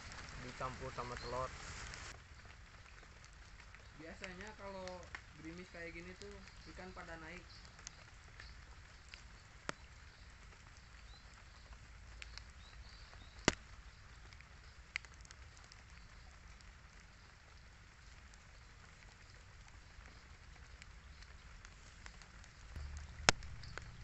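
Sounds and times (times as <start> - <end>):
raindrops ticking: 0.0 - 24.0.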